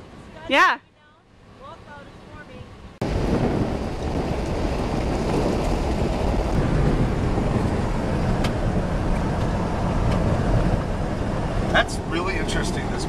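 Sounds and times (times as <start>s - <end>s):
wind and road noise inside car: 0.0s - 13.0s.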